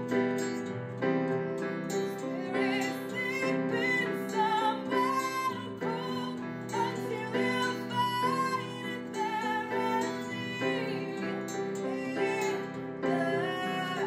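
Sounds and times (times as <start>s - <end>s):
acoustic guitar: 0.0s - 14.0s
woman singing: 1.5s - 14.0s.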